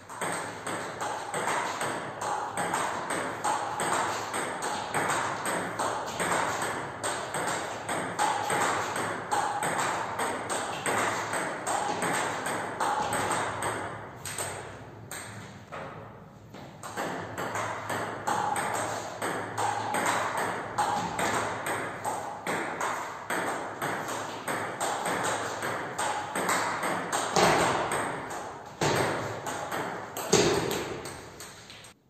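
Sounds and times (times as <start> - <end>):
table tennis ball bouncing on table: 0.0 - 31.9
table tennis ball hitting bats: 0.0 - 32.0.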